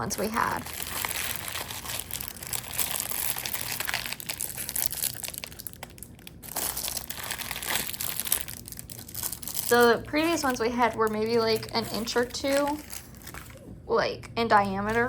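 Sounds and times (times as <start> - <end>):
packing material crinkling: 0.0 - 13.7.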